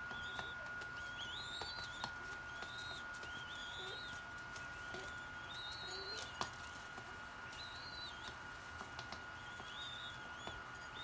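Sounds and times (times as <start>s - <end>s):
young doves squeaking: 0.0s - 11.0s.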